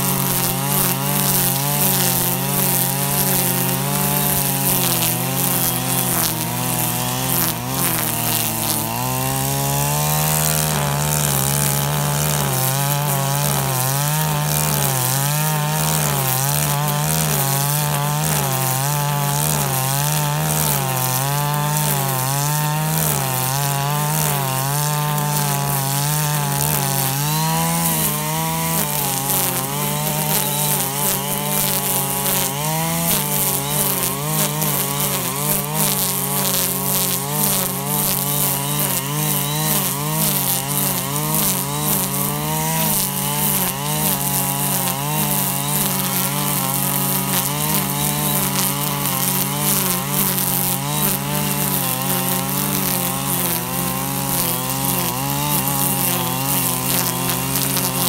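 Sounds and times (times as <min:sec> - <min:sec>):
brush cutter running at high speed: 0:00.0 - 0:58.0.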